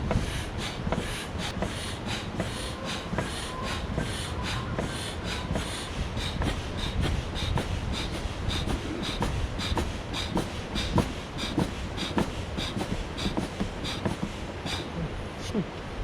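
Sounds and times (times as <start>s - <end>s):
machine chuffing: 0.0s - 15.0s.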